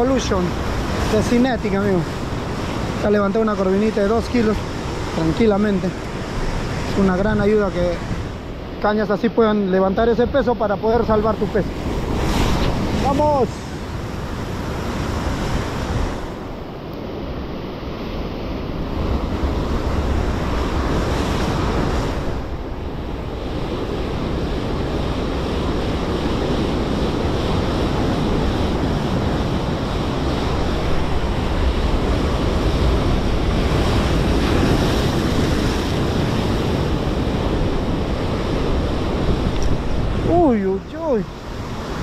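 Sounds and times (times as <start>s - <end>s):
ocean surf breaking on shore: 0.0s - 42.0s
wind buffeting microphone: 0.0s - 42.0s.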